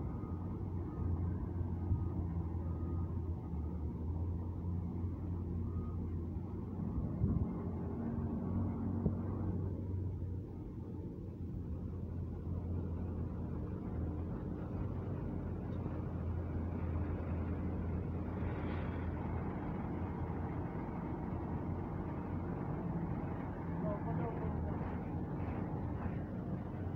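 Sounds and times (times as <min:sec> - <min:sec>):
truck engine humming: 0:00.0 - 0:26.9.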